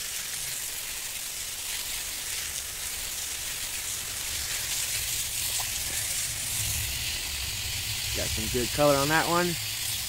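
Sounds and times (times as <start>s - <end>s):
water spattering on concrete: 0.0s - 10.0s
water spray hissing: 0.0s - 10.0s.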